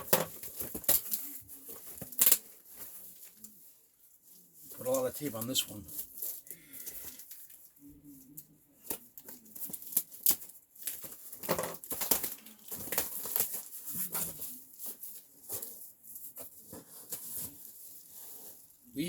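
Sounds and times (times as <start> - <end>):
rustling: 0.0 - 19.0.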